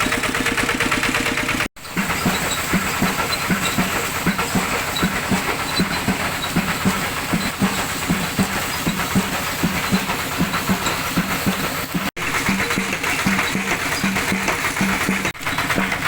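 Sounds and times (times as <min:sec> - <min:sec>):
diesel tractor engine thumping: 0:00.0 - 0:16.0.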